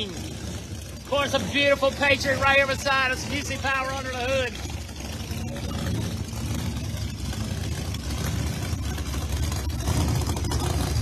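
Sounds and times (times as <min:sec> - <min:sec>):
race car engines rumbling: 0:00.0 - 0:11.0.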